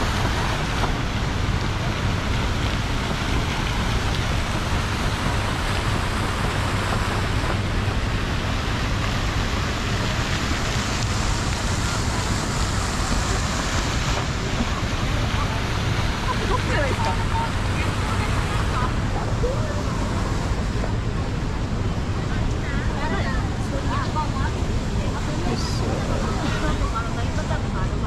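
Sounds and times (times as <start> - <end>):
fountain water splashing: 0.0 - 28.0.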